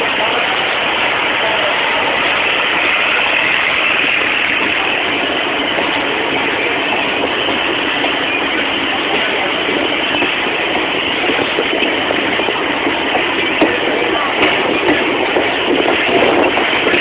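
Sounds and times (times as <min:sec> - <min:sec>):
rushing air: 0:00.0 - 0:17.0
train passing on next track: 0:00.0 - 0:17.0
train wheels on rail: 0:00.0 - 0:17.0.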